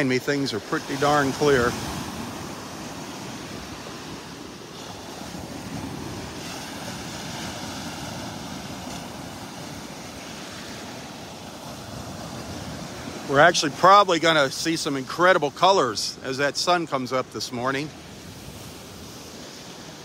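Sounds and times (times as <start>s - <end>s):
surf: 0.0s - 20.0s
wind: 0.0s - 20.0s.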